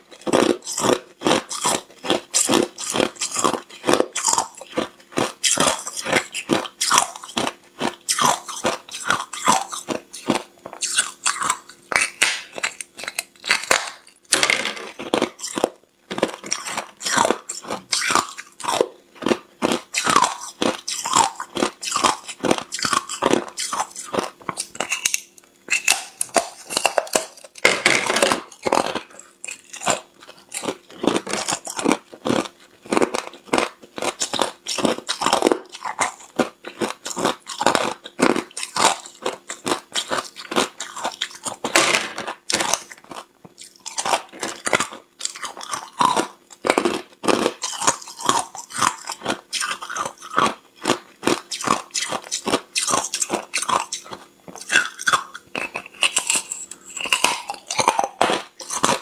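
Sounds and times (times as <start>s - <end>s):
ice being chewed: 0.1s - 59.0s.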